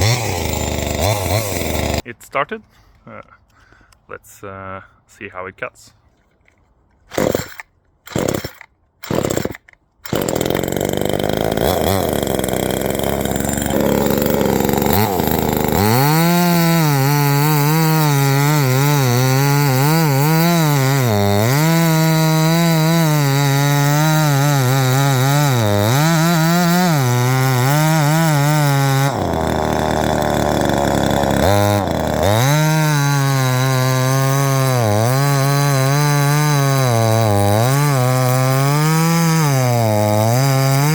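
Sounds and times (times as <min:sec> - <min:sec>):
chainsaw cutting wood: 0:00.0 - 0:02.0, 0:07.0 - 0:40.9.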